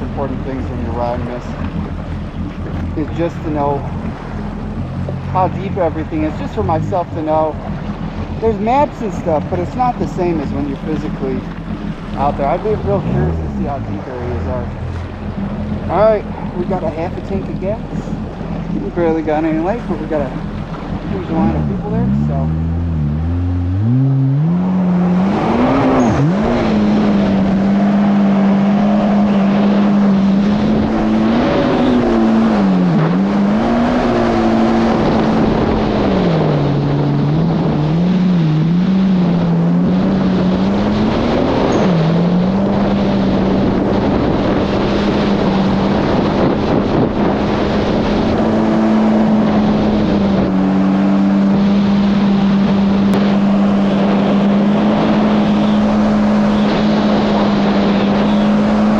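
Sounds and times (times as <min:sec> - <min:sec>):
jet ski engine running: 0:00.0 - 0:58.9
rush of wind and water: 0:00.0 - 0:58.9.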